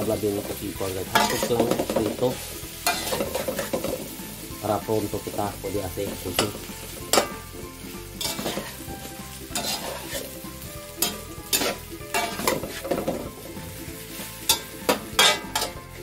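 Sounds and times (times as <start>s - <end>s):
chicken sizzling in wok: 0.0s - 16.0s
metal utensil scraping wok: 0.3s - 16.0s.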